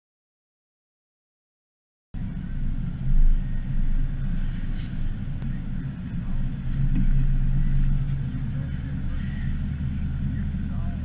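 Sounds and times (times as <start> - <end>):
car engine running: 2.2 - 11.0.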